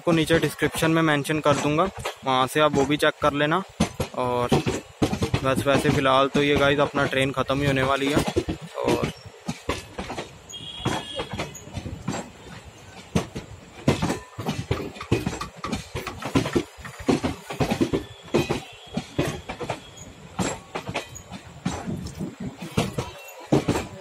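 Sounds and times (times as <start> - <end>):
train wheels clattering over joints: 0.0 - 24.0.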